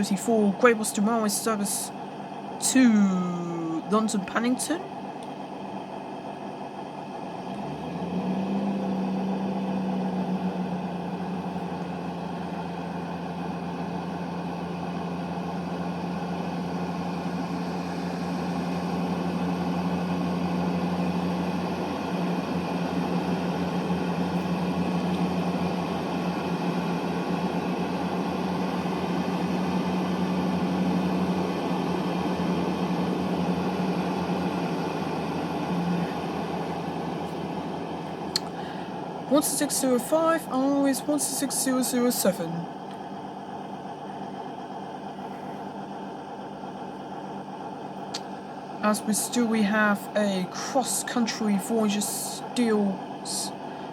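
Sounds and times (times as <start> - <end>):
diesel train engine drone: 0.0 - 53.9.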